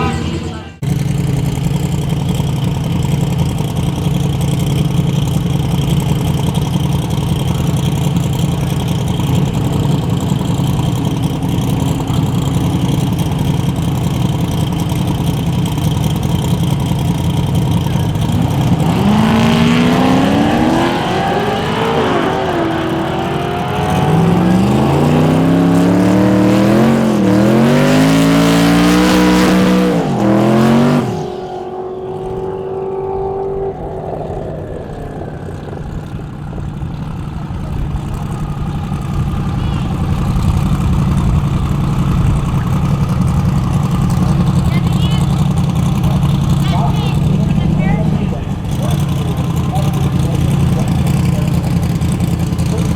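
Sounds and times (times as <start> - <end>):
drag car engine idling and revving: 0.0 - 52.9.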